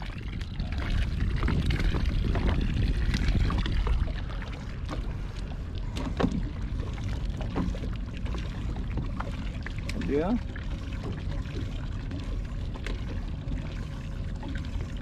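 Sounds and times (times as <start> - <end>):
low wind rumble: 0.0 - 15.0
water lapping against boat: 0.0 - 15.0.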